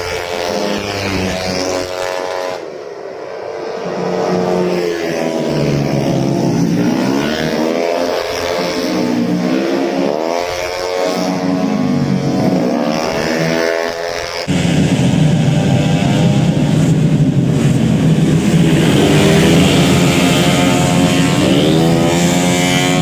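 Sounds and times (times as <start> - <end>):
scooter engines revving: 0.0 - 23.0.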